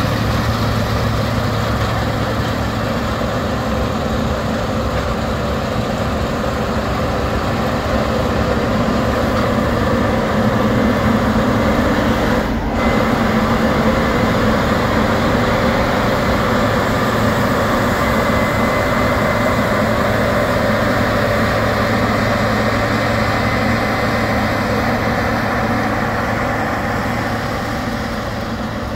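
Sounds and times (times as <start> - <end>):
combine harvester running: 0.0 - 28.9
tractor engine: 0.0 - 28.9.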